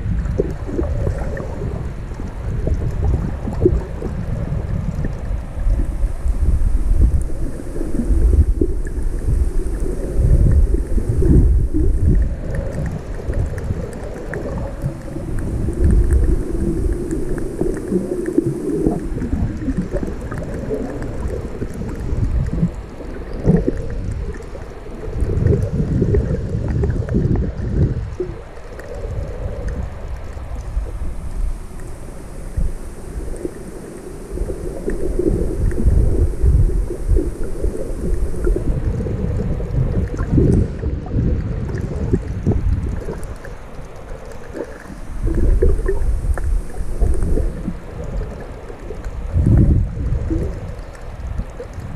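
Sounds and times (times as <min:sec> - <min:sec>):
underwater rumble of surging water: 0:00.0 - 0:51.9
faint crackling ticks: 0:00.1 - 0:51.9.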